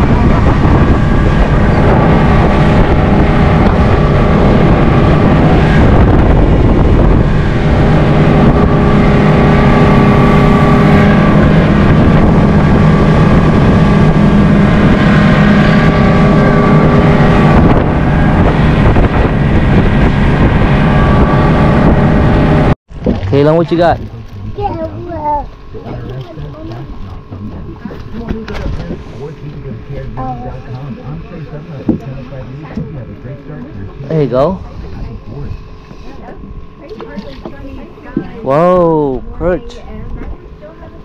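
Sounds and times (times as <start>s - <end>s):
motor running: 0.0s - 41.0s
wind on microphone: 0.0s - 41.0s.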